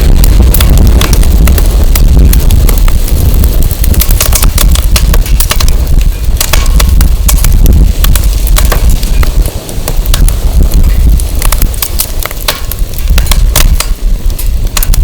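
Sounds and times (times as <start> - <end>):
firewood crackling and popping: 0.0 - 15.0
wind rumble on microphone: 0.0 - 15.0.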